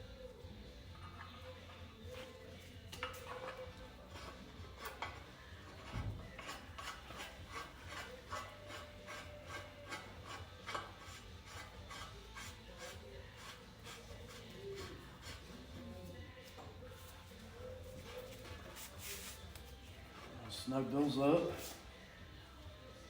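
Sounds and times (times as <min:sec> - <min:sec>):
hand tool scraping metal: 0:01.1 - 0:21.9.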